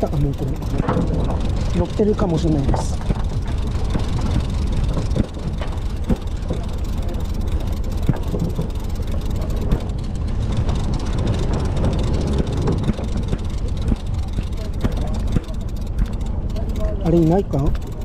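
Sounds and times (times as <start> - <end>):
boat engine rumble: 0.0 - 18.0
wind: 0.0 - 18.0.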